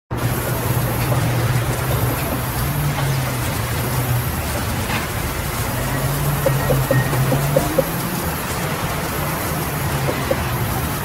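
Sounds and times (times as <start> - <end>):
band saw machinery running: 0.1 - 11.0.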